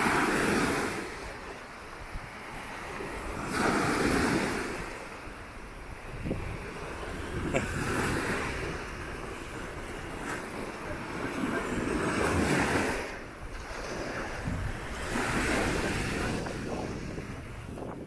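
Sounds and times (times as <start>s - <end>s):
small waves breaking on sand: 0.0s - 18.0s.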